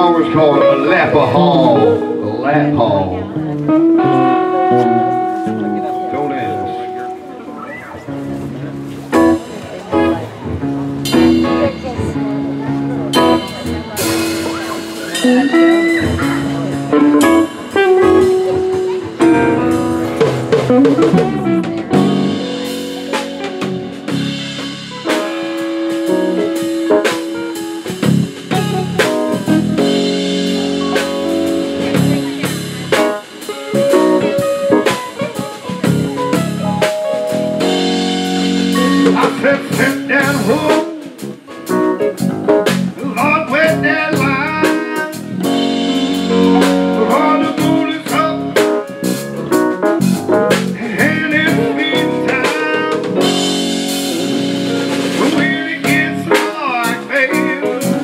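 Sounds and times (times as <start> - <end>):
bass guitar: 0.0 - 58.0
drum kit: 0.0 - 58.0
electric guitars: 0.0 - 58.0
keyboard: 0.0 - 58.0.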